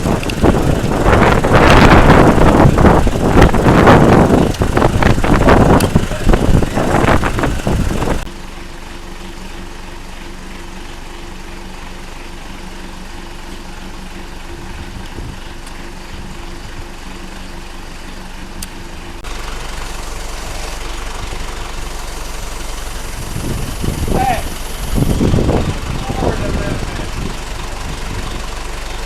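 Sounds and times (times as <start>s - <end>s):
deep steady rumble: 0.0s - 29.0s
engine idling: 0.0s - 29.0s.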